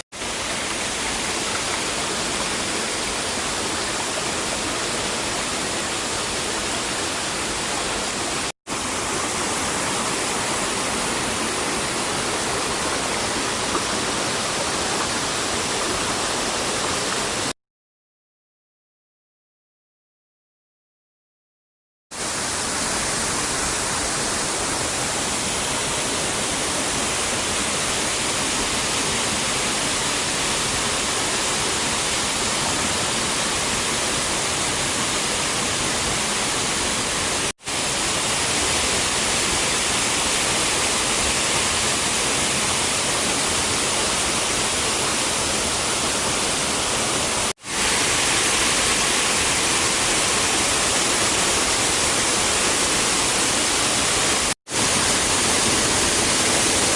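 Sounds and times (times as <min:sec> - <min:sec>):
waterfall roaring: 0:00.2 - 0:17.5, 0:22.2 - 0:56.9.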